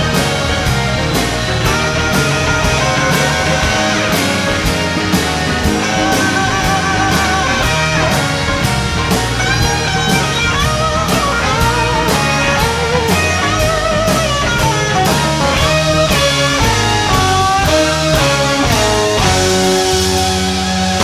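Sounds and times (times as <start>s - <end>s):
bass: 0.0s - 21.0s
blues-rock electric guitar lead: 0.0s - 21.0s
drums keeping a beat: 0.0s - 21.0s.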